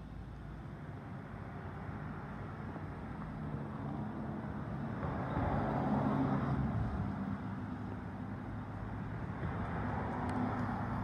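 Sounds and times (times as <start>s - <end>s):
distant vehicles rumbling: 0.0s - 11.0s.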